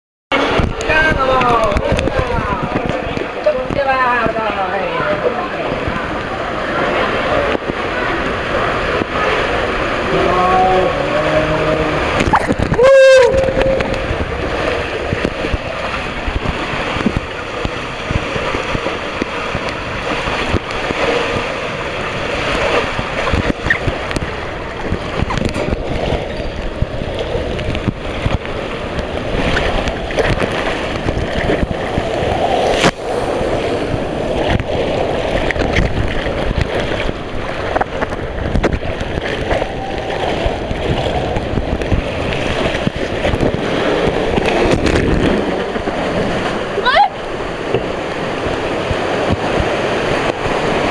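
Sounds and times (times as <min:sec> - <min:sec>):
water rushing in slide tube: 0:00.3 - 0:50.9.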